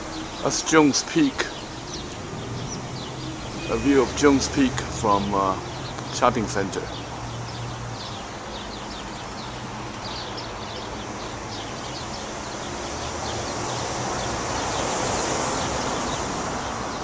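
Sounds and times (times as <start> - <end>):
small birds chirping: 0.0 - 17.0
traffic noise: 0.0 - 17.0
vehicle passing: 0.0 - 17.0.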